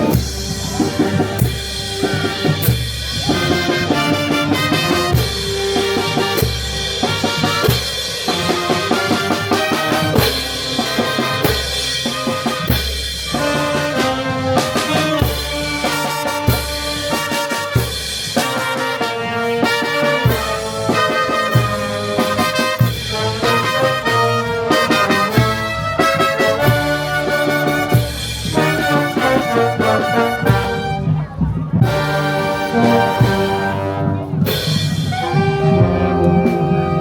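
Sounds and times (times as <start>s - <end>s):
bass drum and percussion beat: 0.0s - 37.0s
brass melody: 0.0s - 37.0s.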